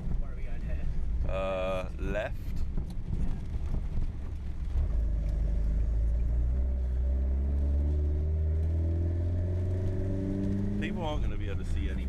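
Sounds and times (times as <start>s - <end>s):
car engine drone from inside cabin: 0.0s - 12.0s.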